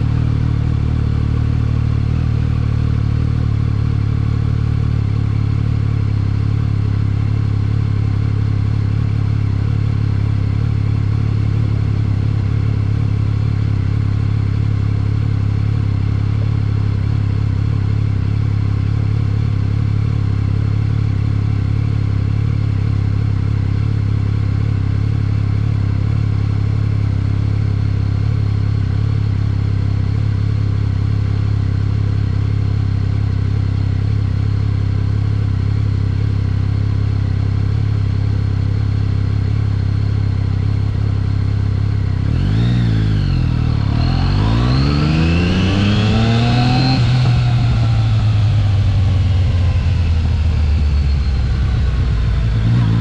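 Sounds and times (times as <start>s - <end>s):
motorcycle engine droning: 0.0s - 53.0s.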